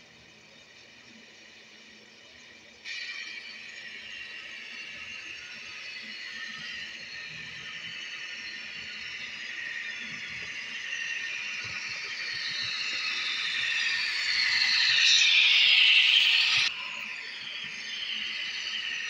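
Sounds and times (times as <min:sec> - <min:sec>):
model train motor whine: 0:00.0 - 0:19.0.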